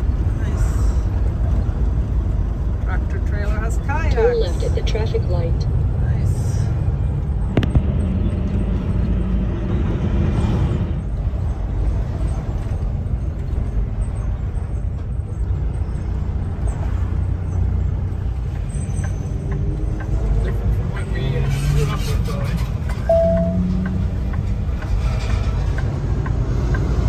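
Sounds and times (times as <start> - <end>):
truck engine and tyres rumbling: 0.0 - 27.0.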